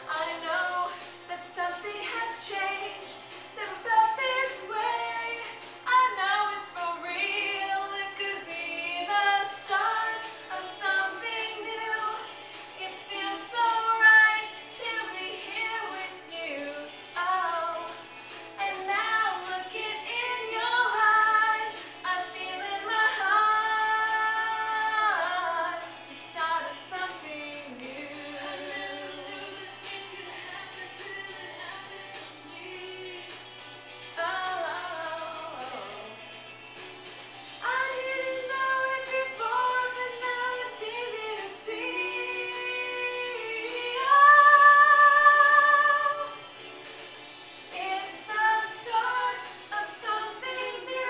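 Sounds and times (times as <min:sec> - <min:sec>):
woman singing pop song: 0:00.0 - 0:51.0.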